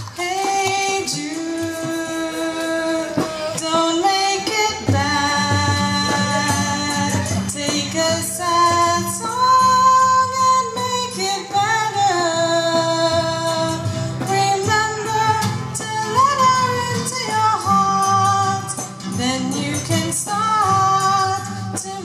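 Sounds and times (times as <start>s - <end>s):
guitar: 0.0s - 22.0s.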